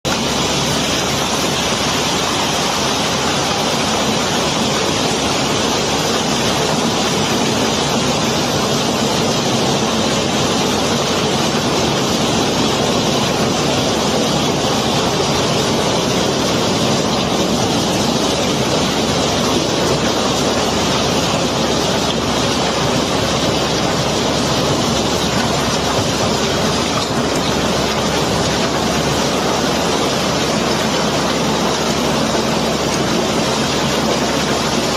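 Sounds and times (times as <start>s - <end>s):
gravel pouring: 0.1s - 34.9s
machinery running: 0.1s - 34.9s.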